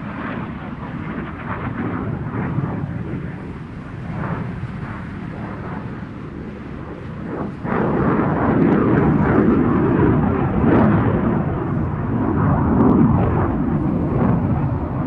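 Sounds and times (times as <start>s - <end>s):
jet engine afterburner roar: 0.0s - 15.0s.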